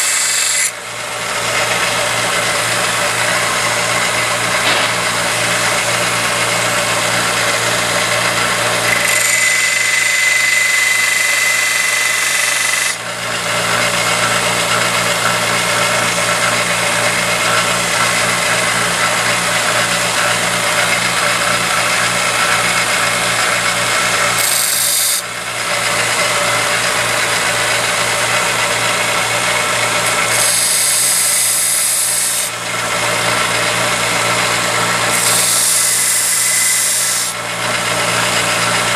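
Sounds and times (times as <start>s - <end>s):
belt grinder running: 0.0s - 38.9s.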